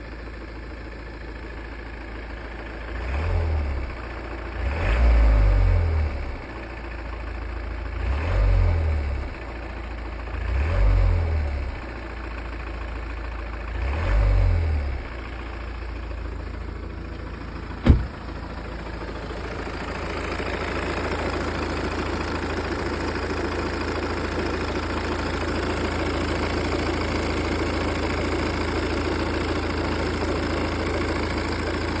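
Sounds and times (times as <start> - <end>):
diesel engine idling: 0.0 - 32.0
engine rattle: 0.0 - 32.0.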